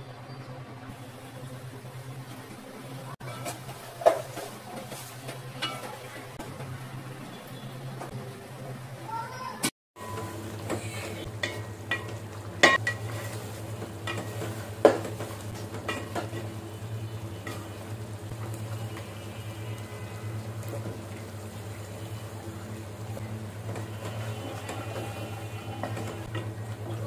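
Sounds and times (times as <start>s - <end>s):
faint sizzling: 0.0s - 27.0s.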